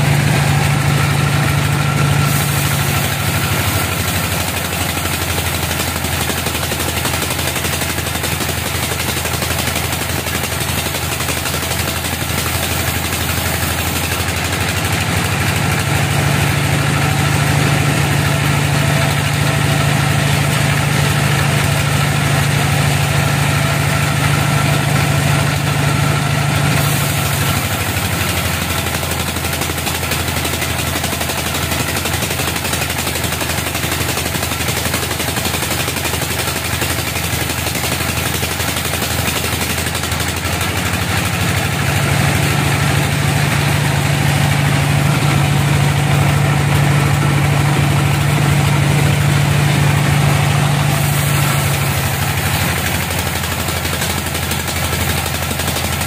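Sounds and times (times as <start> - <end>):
band sawmill engine hum: 0.0 - 56.0
saw blade hissing through log: 1.8 - 25.0, 26.4 - 56.0.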